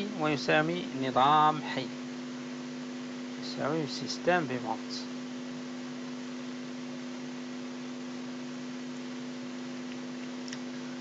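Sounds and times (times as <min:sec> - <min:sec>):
constant hiss: 0:00.0 - 0:11.0
steady low hum: 0:00.0 - 0:11.0.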